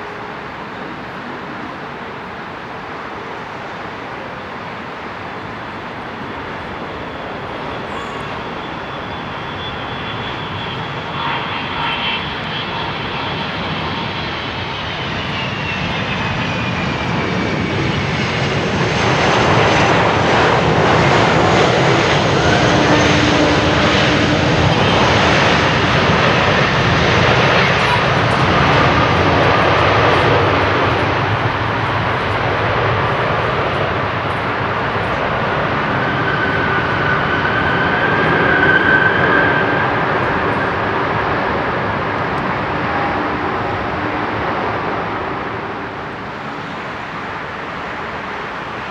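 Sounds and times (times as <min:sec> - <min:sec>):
jet engine roar: 0:00.0 - 0:48.9
jet engine whine: 0:00.0 - 0:48.9.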